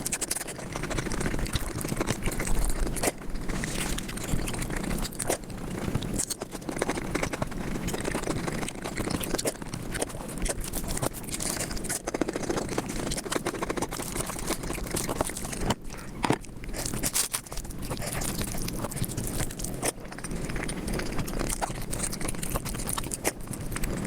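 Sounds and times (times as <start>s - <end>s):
sped-up chewing and crunching: 0.0s - 24.0s.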